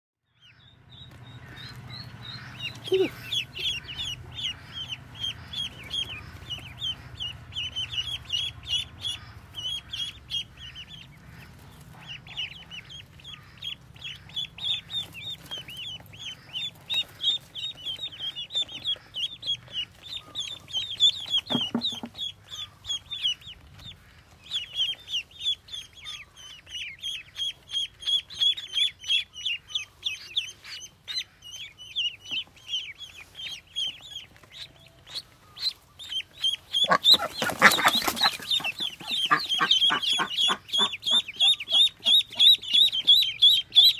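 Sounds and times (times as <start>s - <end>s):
ducklings peeping: 0.3s - 43.9s.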